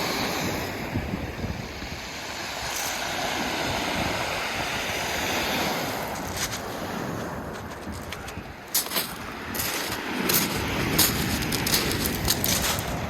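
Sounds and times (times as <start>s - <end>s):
waves washing onto pebble shore: 0.0s - 13.0s
wind buffeting microphone: 0.0s - 13.0s.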